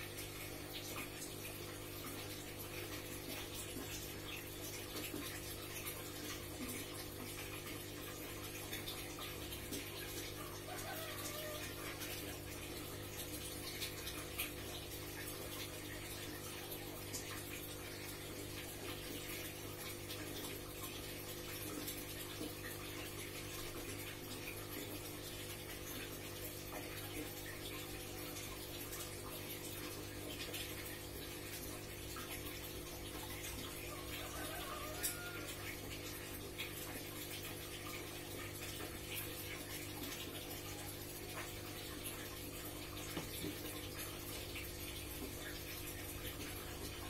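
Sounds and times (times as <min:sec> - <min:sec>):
aquarium water bubbling: 0:00.0 - 0:47.0
pump humming: 0:00.0 - 0:47.0.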